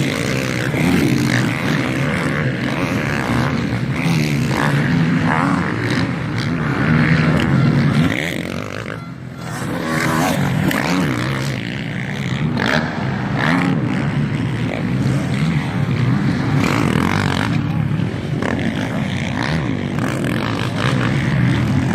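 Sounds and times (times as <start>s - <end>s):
motocross bikes revving past: 0.0s - 21.9s.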